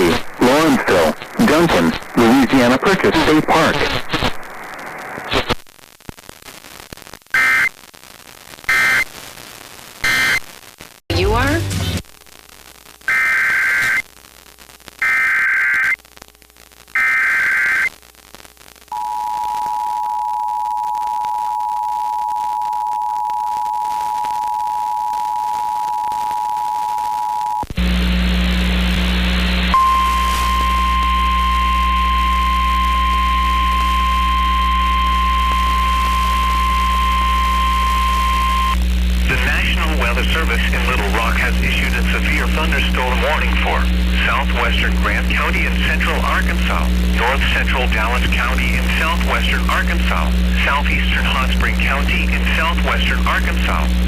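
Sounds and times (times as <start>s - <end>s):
static with hum: 0.0s - 54.0s.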